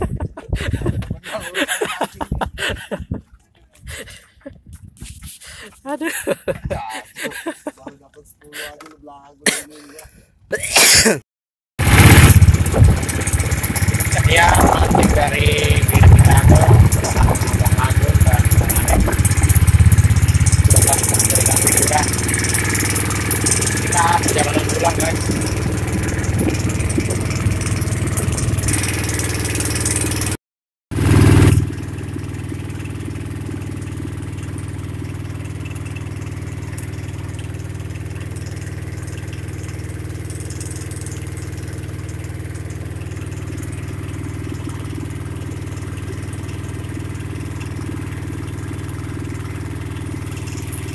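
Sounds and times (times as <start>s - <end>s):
boat engine running: 0.0s - 8.8s, 11.8s - 50.9s.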